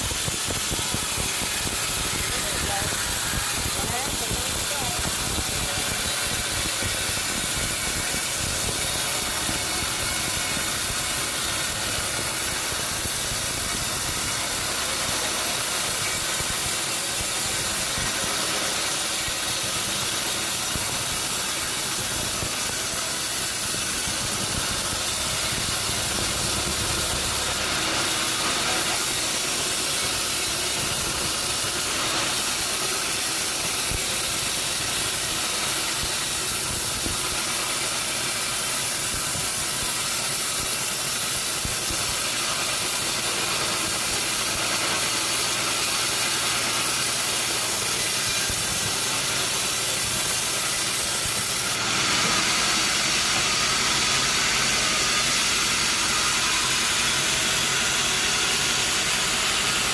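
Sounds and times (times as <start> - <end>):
sawmill machinery hissing: 0.0 - 59.9.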